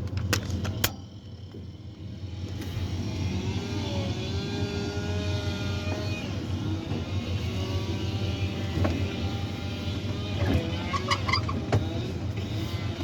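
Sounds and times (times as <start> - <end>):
low machinery hum: 0.0 - 13.0
whining motor tones rising: 1.5 - 13.0.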